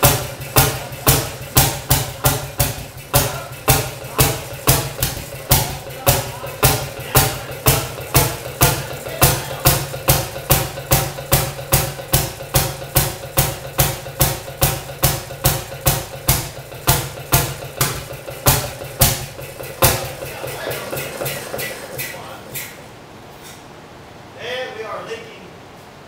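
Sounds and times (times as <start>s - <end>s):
two-stroke engine idling: 0.0s - 23.1s.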